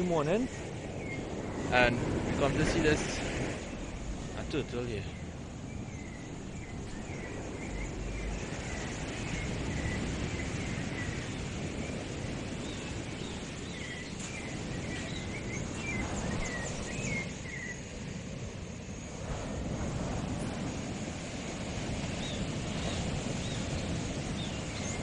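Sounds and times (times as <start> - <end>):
birds chirping: 0.0 - 25.0
steady rushing noise: 0.0 - 25.0.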